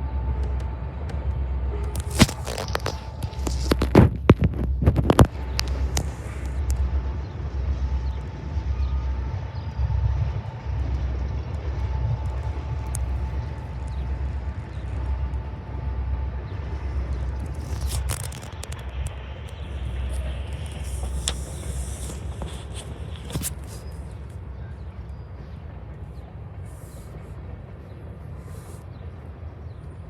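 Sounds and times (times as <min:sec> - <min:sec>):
faint steady whine: 0:00.0 - 0:30.0
train rumbling: 0:00.0 - 0:30.0.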